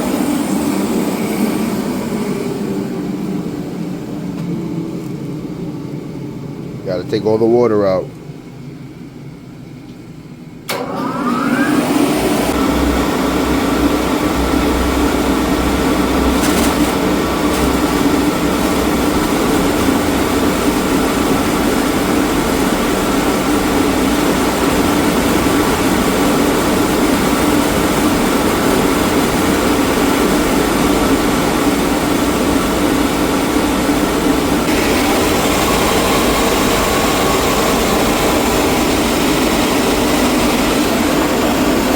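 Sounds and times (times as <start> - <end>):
shop vacuum motor whine: 0.0 - 5.2, 10.7 - 41.9.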